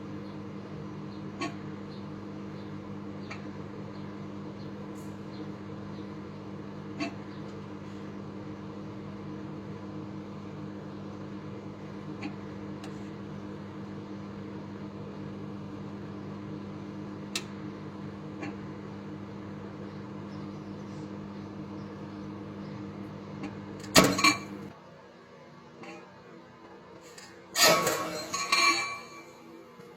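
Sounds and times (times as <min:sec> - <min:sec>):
microwave oven humming: 0:00.0 - 0:29.9.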